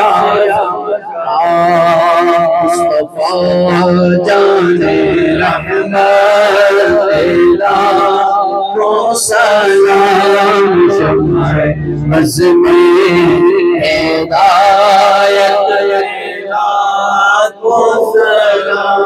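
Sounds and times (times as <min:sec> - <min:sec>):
man singing devotional verse: 0:00.0 - 0:19.0.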